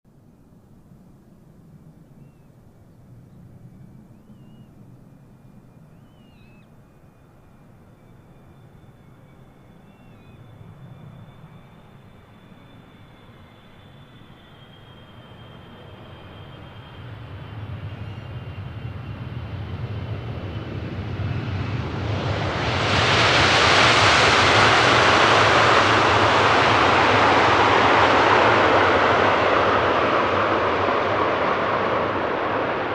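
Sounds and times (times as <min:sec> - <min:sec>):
jet engine and air noise: 0:00.1 - 0:32.9.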